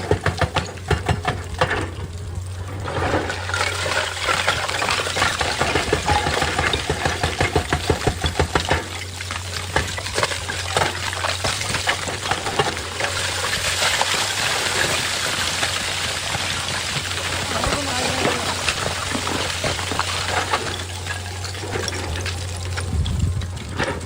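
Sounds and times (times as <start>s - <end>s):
excavator engine humming: 0.0s - 24.0s
rocks clattering: 0.0s - 24.0s.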